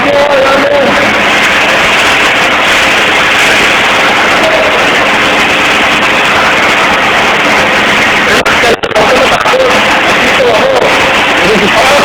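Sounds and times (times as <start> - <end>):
arc welding crackling: 0.0 - 12.0.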